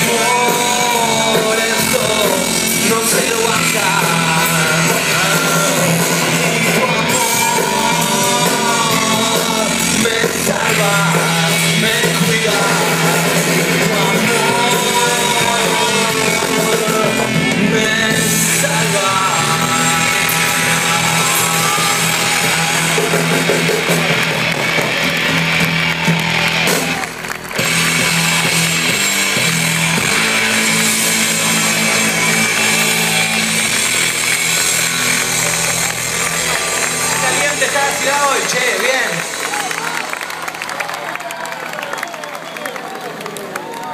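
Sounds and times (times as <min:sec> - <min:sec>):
loud live band music: 0:00.0 - 0:42.6.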